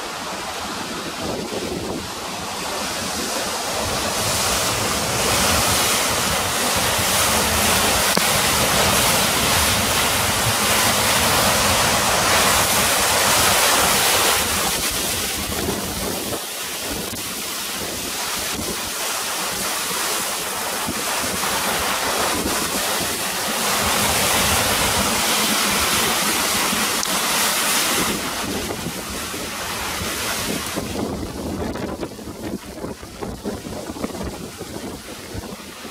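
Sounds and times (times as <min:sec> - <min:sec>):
river rushing: 0:00.0 - 0:35.9
wind buffeting microphone: 0:00.1 - 0:19.0, 0:20.8 - 0:35.9.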